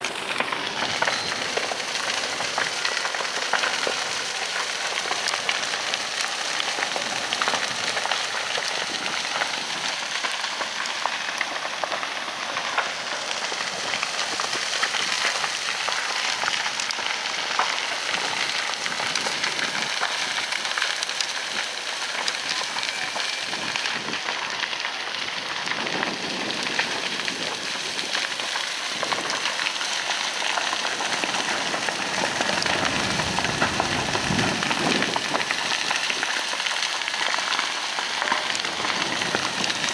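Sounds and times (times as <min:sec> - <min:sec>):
large fire crackling: 0:00.0 - 0:39.9.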